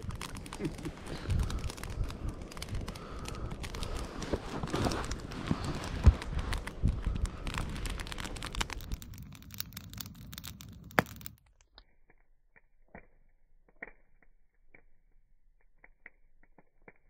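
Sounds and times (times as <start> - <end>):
campfire crackling and popping: 0.0 - 11.5, 12.5 - 17.0.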